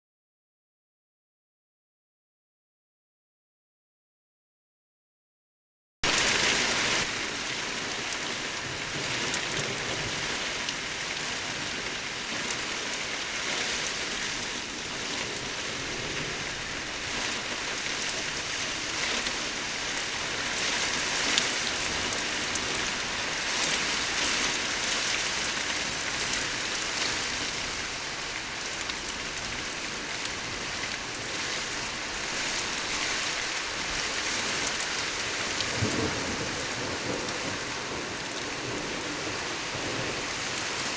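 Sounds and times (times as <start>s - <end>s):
heavy rain falling: 6.0s - 40.9s.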